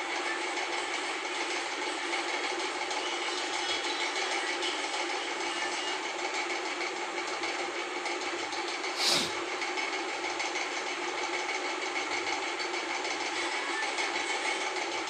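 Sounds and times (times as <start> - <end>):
washing machine motor hum with whine: 0.0 - 8.5, 10.6 - 15.0.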